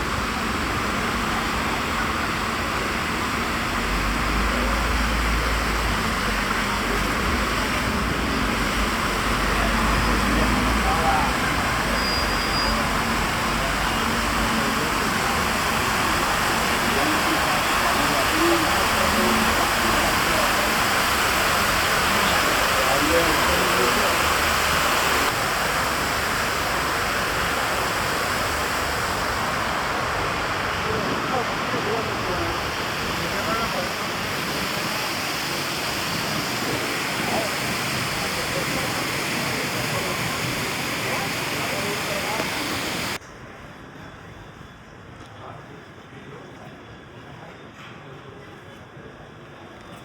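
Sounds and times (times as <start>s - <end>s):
water rushing: 0.0s - 43.2s
low traffic rumble: 0.0s - 43.9s
continuous hiss: 0.0s - 46.4s.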